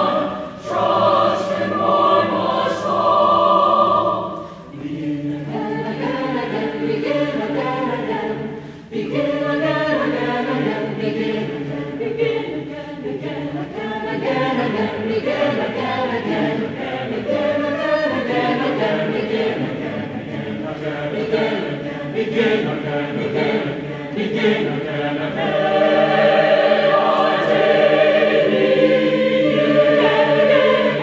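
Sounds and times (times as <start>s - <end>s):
mixed choir singing: 0.0s - 31.0s.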